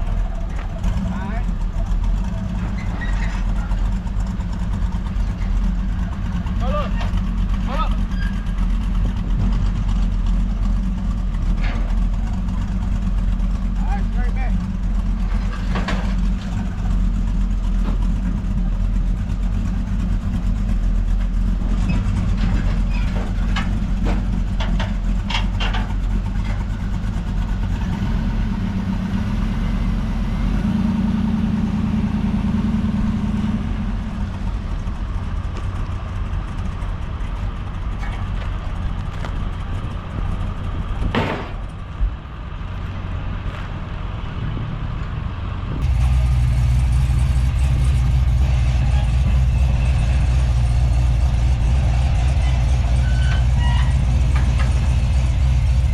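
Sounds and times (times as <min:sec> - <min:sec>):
vehicle engine idling: 0:00.0 - 0:44.4, 0:45.0 - 0:55.9.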